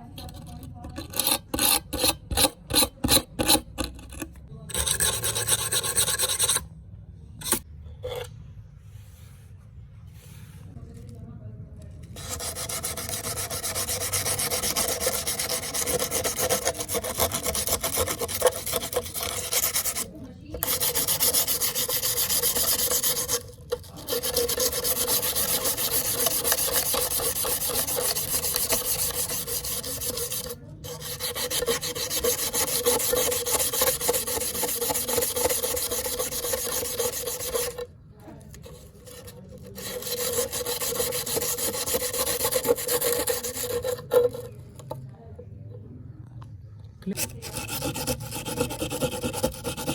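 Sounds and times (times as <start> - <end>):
abrasive scraping on metal blade: 1.0 - 6.7, 7.4 - 8.4, 12.1 - 37.9, 38.5 - 45.0, 47.2 - 49.9.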